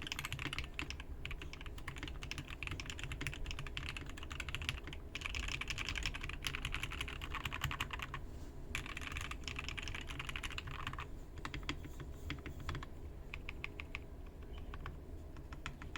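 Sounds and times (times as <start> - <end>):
mechanical keyboard typing: 0.0 - 8.2, 8.8 - 15.9.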